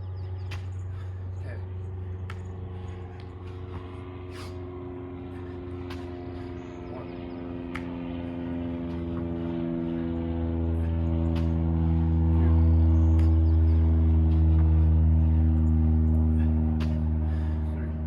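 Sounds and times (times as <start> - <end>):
low ambient drone: 0.0 - 18.0.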